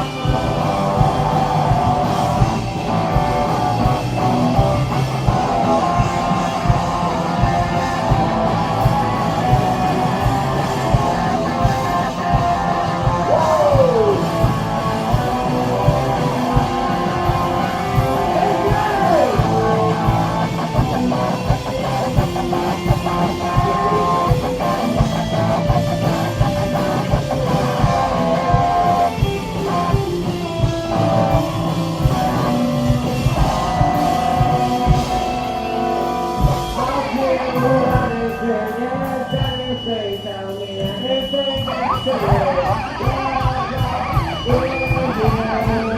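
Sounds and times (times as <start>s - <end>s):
drum kit: 0.0s - 45.9s
electric guitars: 0.0s - 45.9s.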